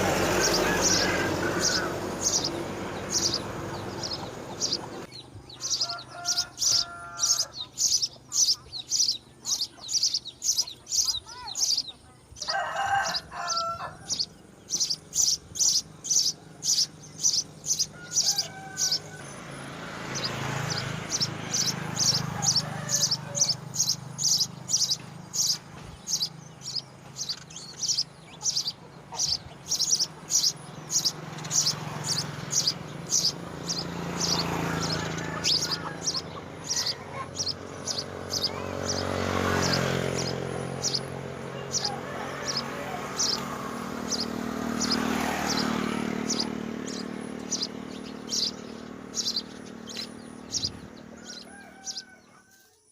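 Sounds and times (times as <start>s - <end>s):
small bird chirping: 0.0s - 52.8s.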